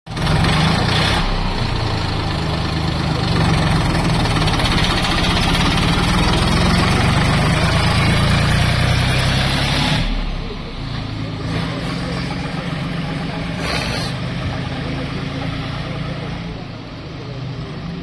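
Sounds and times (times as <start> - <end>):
tractor engine running: 0.1 - 18.0.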